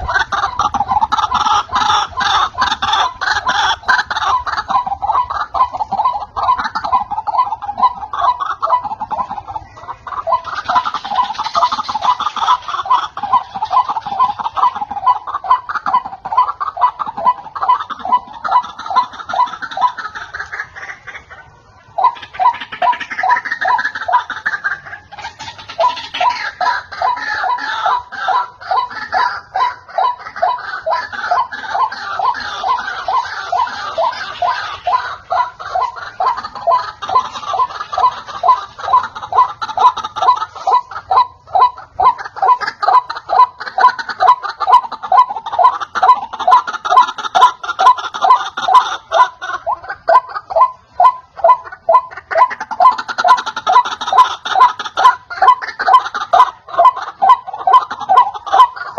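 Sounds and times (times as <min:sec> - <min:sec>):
waterhens calling: 0:00.0 - 0:58.9.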